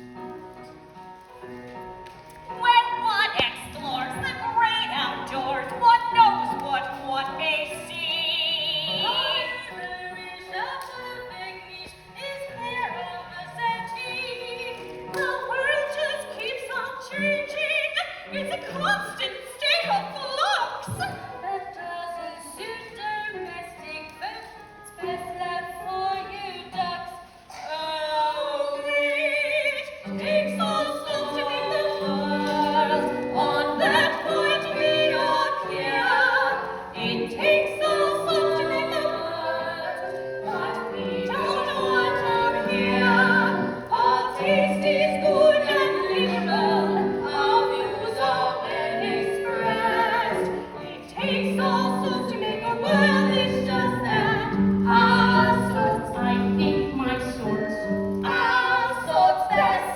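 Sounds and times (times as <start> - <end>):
musical theatre singing: 0.0 - 59.9.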